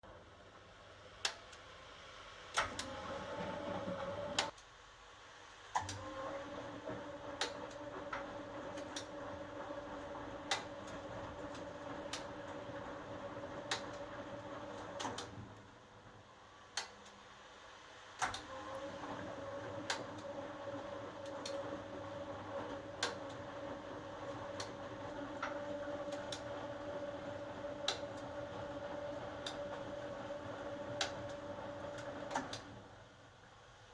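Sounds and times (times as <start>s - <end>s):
washing machine motor hum: 2.5s - 4.5s, 6.0s - 16.5s, 18.2s - 33.2s.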